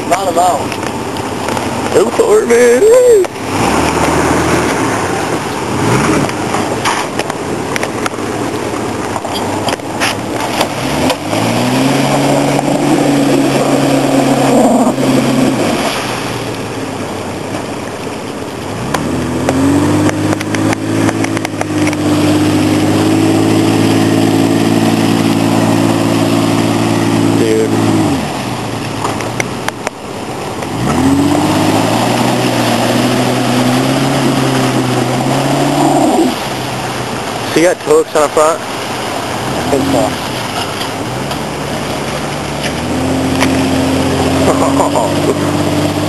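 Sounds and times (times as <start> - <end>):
water and mud splashing: 0.0 - 46.0
car engine revving hard: 1.9 - 7.3, 10.3 - 16.5, 18.7 - 46.0.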